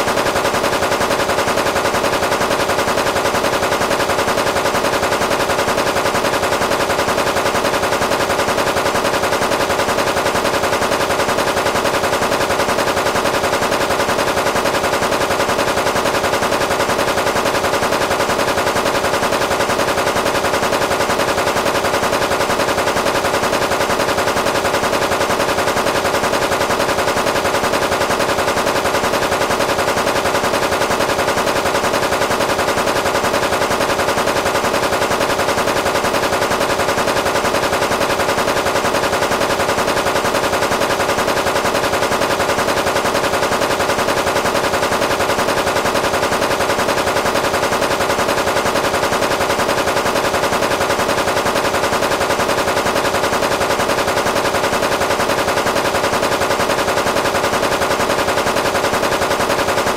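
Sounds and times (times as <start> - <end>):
cartoon machine-gun fire: 0.0 - 59.9.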